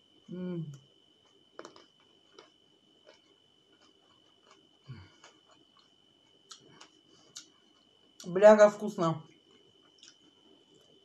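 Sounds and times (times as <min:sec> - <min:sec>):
soft chewing mouth clicks: 0:00.7 - 0:08.3, 0:09.3 - 0:11.0.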